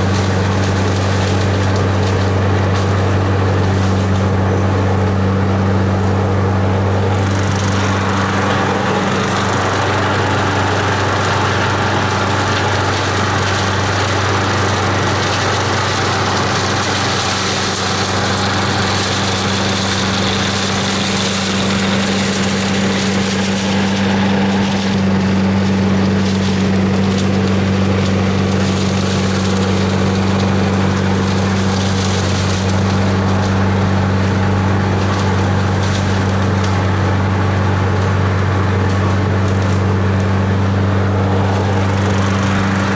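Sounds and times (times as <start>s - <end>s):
fan rushing: 0.0s - 42.9s
garden vacuum engine drone: 0.0s - 42.9s
leaves crackling: 0.0s - 42.9s.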